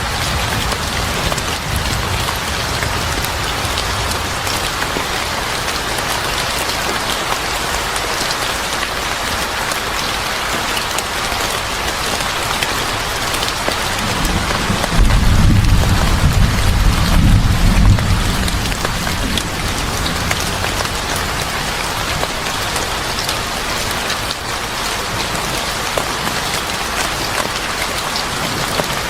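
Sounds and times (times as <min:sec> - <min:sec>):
heavy rain falling: 0:00.0 - 0:29.0
rain drops ticking: 0:00.0 - 0:29.0.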